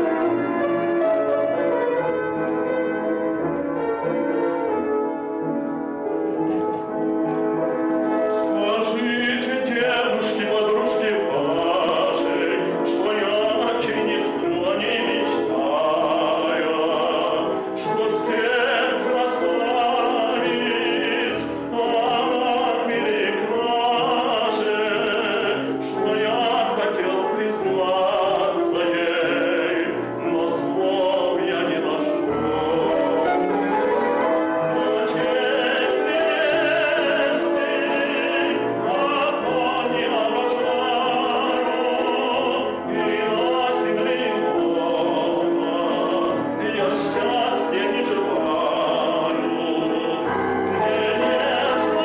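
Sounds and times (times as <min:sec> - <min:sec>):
piano accompaniment: 0:00.0 - 0:52.0
man singing operatically: 0:08.3 - 0:52.0.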